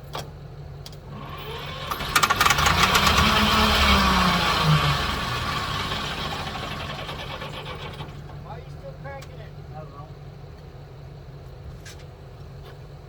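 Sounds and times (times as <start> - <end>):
diesel tractor engine clattering: 0.0 - 12.9.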